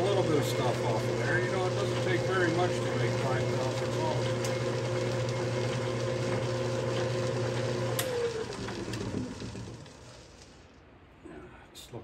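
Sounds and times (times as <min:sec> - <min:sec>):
lathe motor humming: 0:00.0 - 0:10.4.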